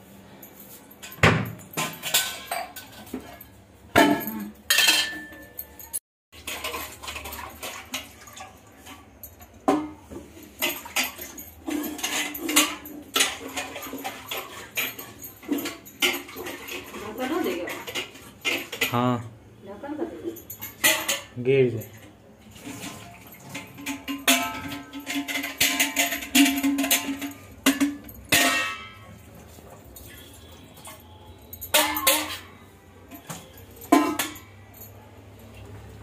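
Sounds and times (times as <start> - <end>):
steel utensils clanking in sink: 0.9 - 19.3, 20.2 - 36.0.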